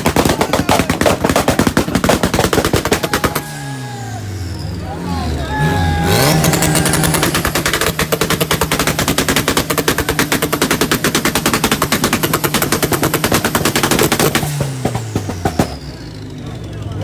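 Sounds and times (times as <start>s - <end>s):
exhaust pops and bangs: 0.0s - 3.6s, 6.2s - 17.0s
car engine at rev limiter: 0.0s - 17.0s.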